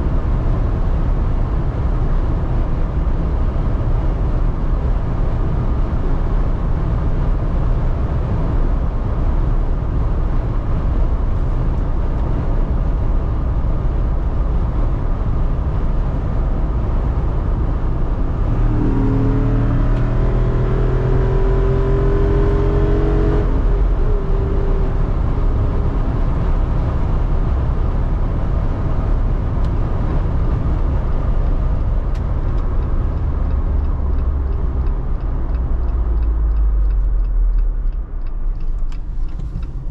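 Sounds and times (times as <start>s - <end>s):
car engine running: 0.0s - 22.4s, 23.5s - 39.9s
road noise: 0.0s - 39.9s.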